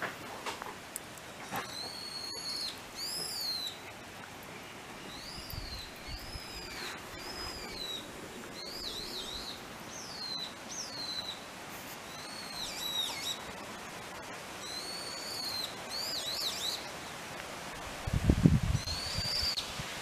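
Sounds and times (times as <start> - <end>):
birds singing: 1.4 - 17.2, 18.7 - 19.6.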